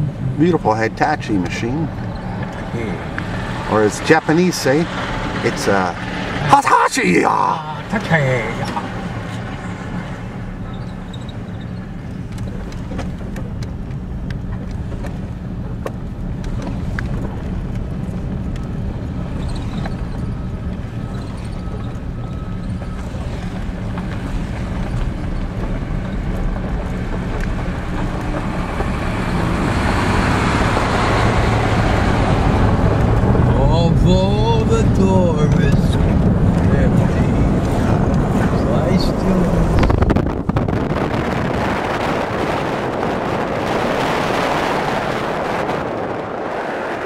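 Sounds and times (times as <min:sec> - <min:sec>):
car engine droning: 0:00.0 - 0:47.0
tyre and wind noise: 0:07.9 - 0:47.0.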